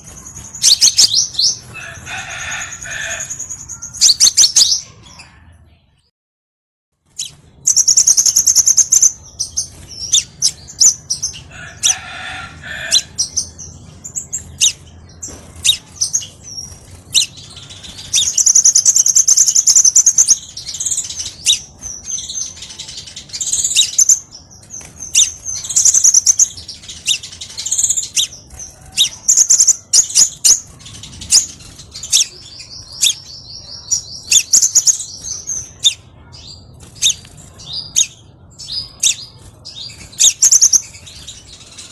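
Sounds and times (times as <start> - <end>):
bird chirping and trilling: 0.0 - 6.0, 7.1 - 41.9.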